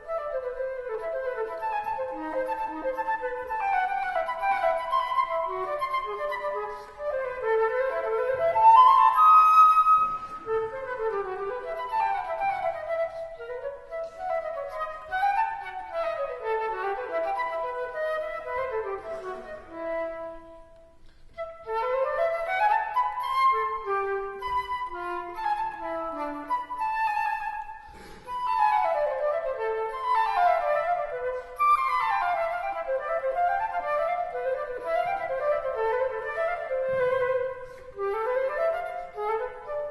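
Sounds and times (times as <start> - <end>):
flute melody with instruments: 0.0 - 39.9.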